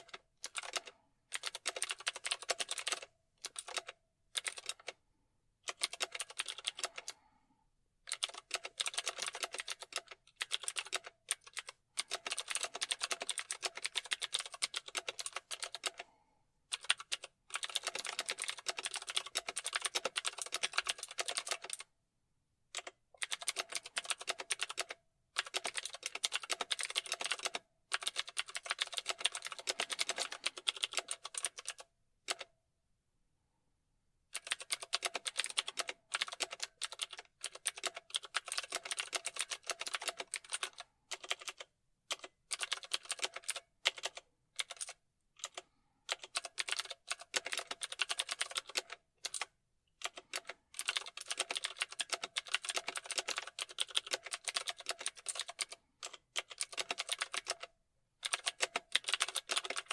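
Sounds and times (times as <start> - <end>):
typing on computer keyboard: 0.0 - 5.0, 5.6 - 7.2, 8.1 - 16.1, 16.7 - 21.9, 22.8 - 32.5, 34.3 - 59.9.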